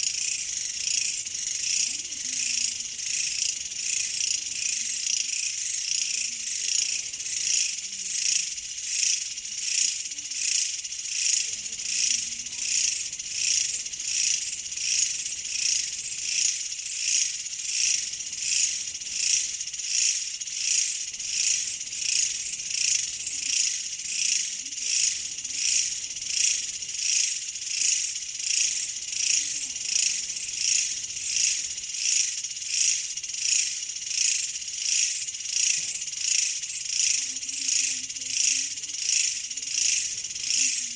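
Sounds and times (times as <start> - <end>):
pulsing high insect chorus: 0.0 - 40.9.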